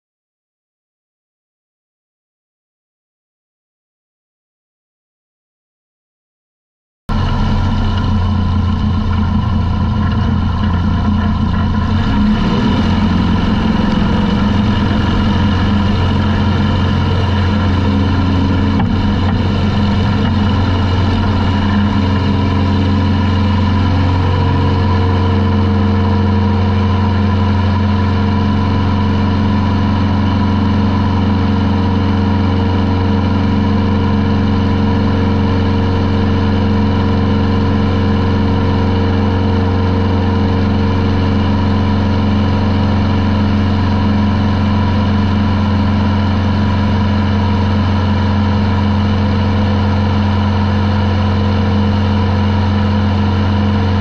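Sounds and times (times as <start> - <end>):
airplane engine and propeller: 7.1 - 54.0.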